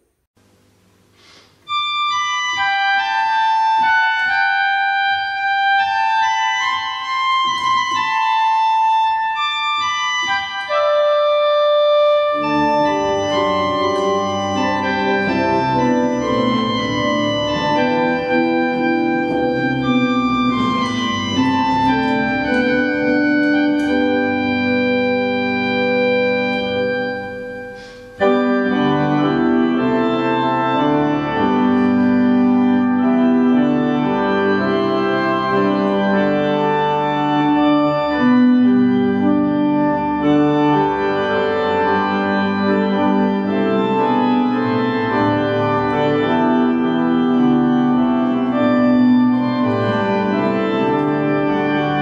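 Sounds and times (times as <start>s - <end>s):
organ playing a hymn: 0.6s - 52.0s.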